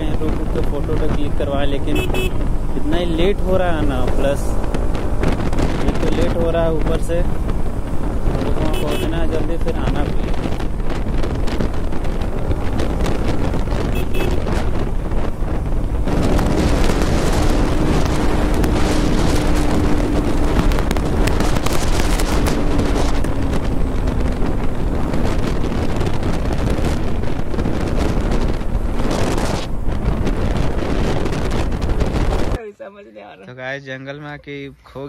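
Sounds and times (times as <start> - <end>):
wind buffeting microphone: 0.0 - 32.6
motorcycle engine running: 4.1 - 32.6.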